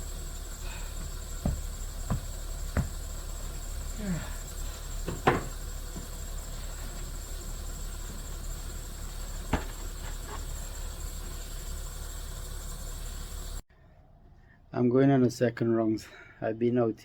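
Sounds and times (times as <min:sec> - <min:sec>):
thin high whine: 0:00.0 - 0:13.6.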